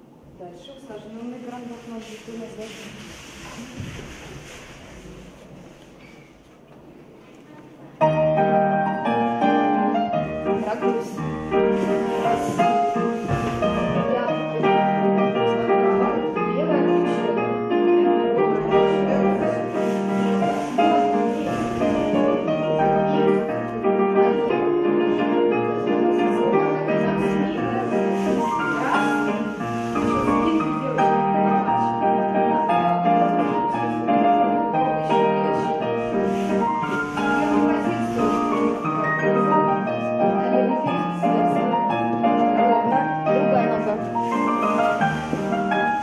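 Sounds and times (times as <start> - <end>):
piano music: 7.8 - 46.0.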